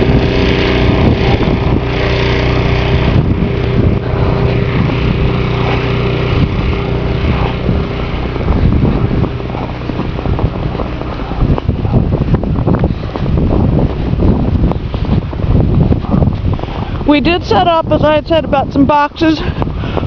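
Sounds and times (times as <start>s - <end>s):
engine hum: 0.0s - 20.0s
wind buffeting microphone: 0.0s - 20.0s.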